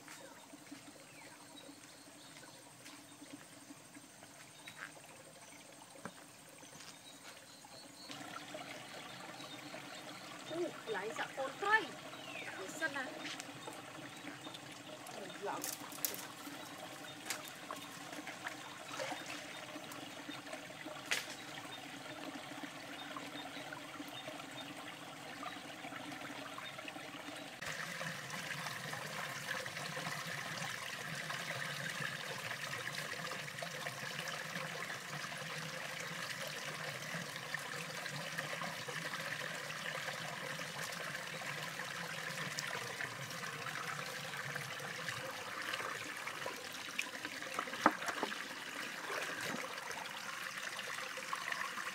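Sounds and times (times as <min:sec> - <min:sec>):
water running over rocks: 0:00.0 - 0:51.9.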